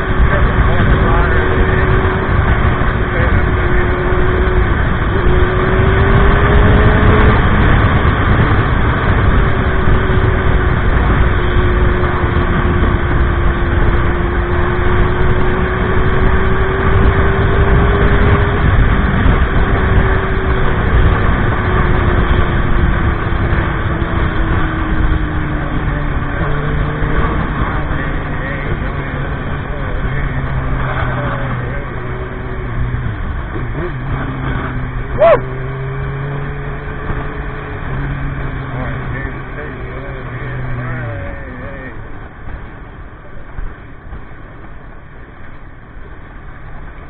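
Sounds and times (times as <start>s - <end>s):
motorcycle engine running: 0.0s - 47.0s
wind and road noise: 0.0s - 47.0s.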